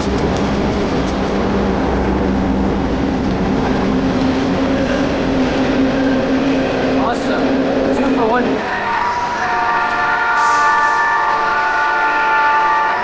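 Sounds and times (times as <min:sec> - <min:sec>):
train passing rumble: 0:00.0 - 0:13.0.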